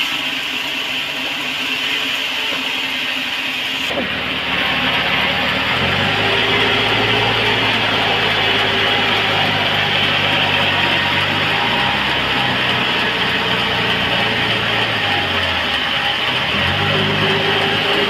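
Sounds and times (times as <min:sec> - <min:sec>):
sawmill machinery drone: 0:00.0 - 0:18.0.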